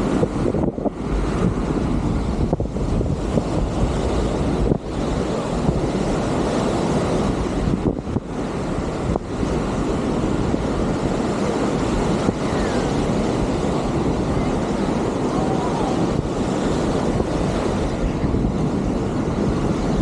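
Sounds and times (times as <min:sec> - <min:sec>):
surf washing on beach: 0:00.0 - 0:20.0
wind buffeting microphone: 0:00.0 - 0:20.0.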